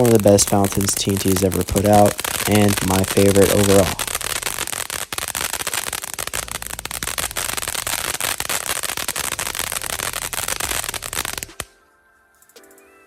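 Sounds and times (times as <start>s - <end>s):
ground fountain firework crackling: 0.0s - 11.7s.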